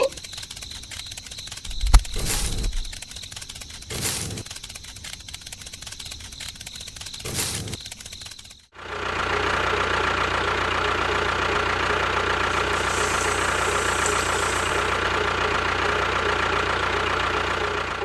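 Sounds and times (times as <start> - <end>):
motor humming and whining: 0.0 - 9.1, 11.0 - 18.0.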